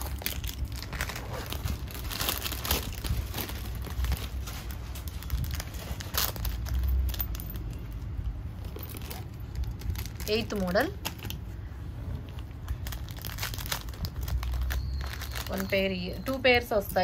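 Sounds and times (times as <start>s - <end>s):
jewellery crinkling rustles: 0.0s - 11.6s, 12.2s - 17.0s.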